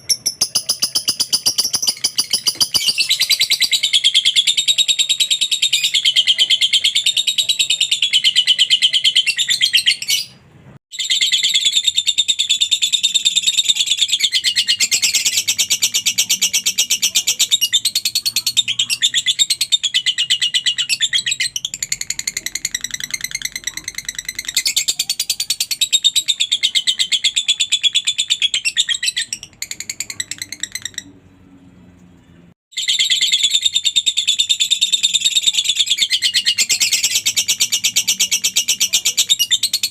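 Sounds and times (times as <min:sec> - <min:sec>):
lovebird chattering trill: 0:00.0 - 0:10.3, 0:11.0 - 0:31.1, 0:32.8 - 0:39.9.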